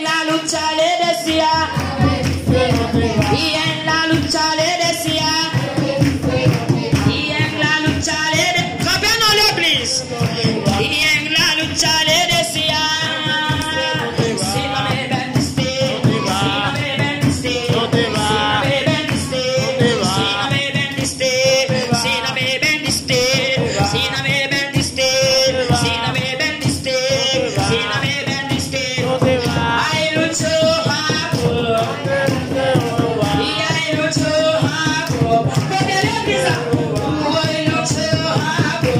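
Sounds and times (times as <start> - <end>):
busy percussion beat: 0.0 - 38.9
voices singing worship music: 0.0 - 38.9.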